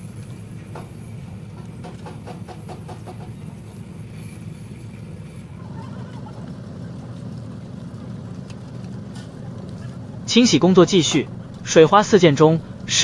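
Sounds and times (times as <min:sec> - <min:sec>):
faint wavering whine: 0:00.0 - 0:13.0
low mechanical rumble: 0:00.0 - 0:13.0.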